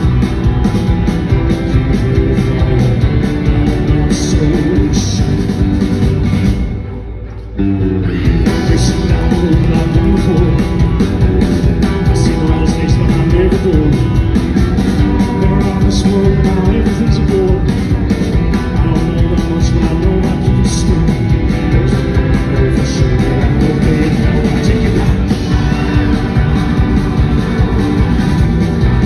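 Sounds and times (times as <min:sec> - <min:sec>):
country-rock band playing: 0:00.0 - 0:29.0.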